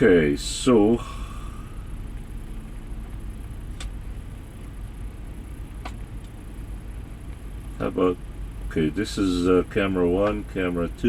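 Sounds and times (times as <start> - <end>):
truck cab low rumble: 0.0 - 11.0.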